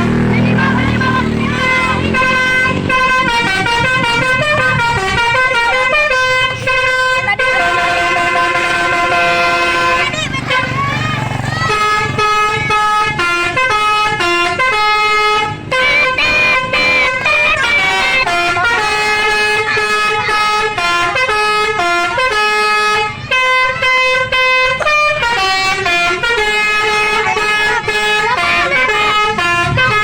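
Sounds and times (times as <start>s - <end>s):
bus musical air horn: 0.0s - 30.0s.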